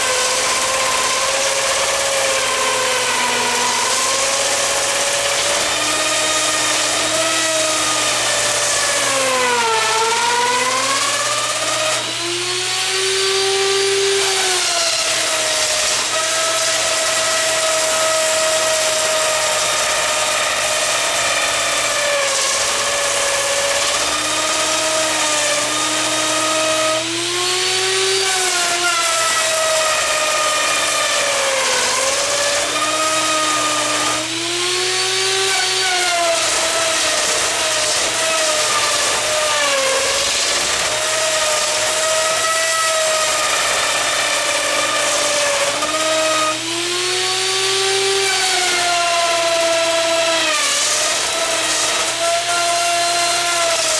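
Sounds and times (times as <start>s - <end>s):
wood router whine: 0.0s - 53.9s.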